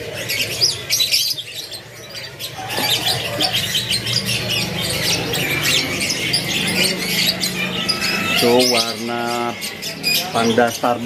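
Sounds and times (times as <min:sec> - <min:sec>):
canaries chirping: 0:00.0 - 0:11.0.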